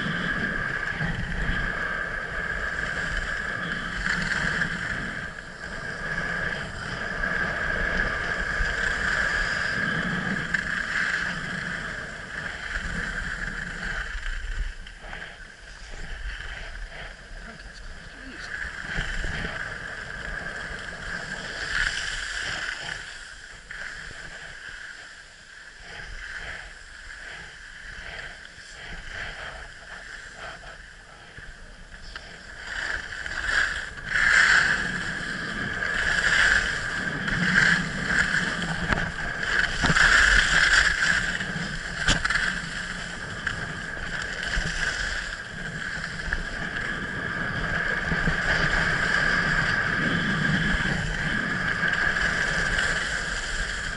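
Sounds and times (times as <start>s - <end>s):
skis scraping over snow: 0.0s - 53.9s
wind on microphone: 0.0s - 53.9s.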